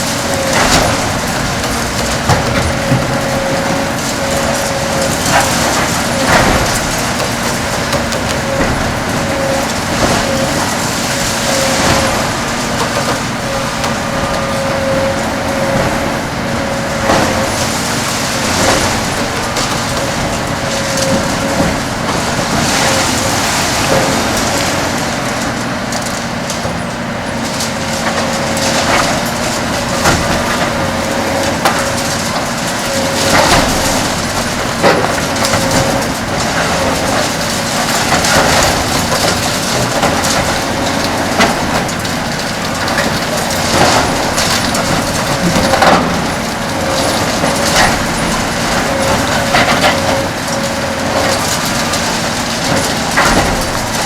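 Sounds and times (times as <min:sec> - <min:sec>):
concrete cracking and crunching: 0:00.0 - 0:54.0
excavator engine and hydraulics hum: 0:00.0 - 0:54.0.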